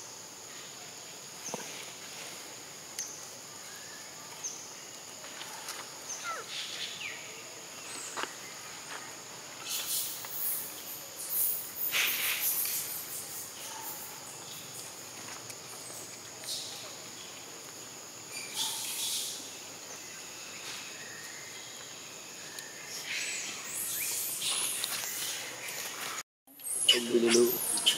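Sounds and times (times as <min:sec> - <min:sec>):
hiss-like noise: 0:00.0 - 0:27.9
insects droning: 0:00.0 - 0:27.9.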